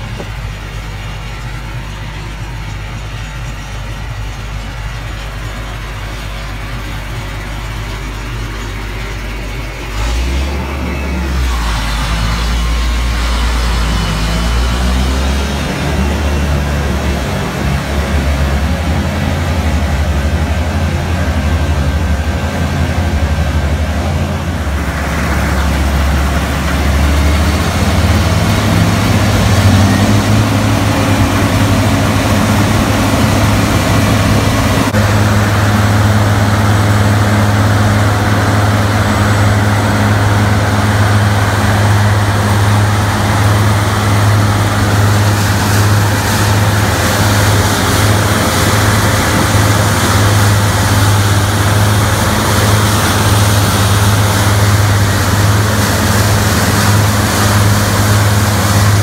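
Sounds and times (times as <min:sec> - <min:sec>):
diesel engine running loud: 0:00.0 - 0:59.0
hiss of crop harvesting: 0:00.0 - 0:59.0.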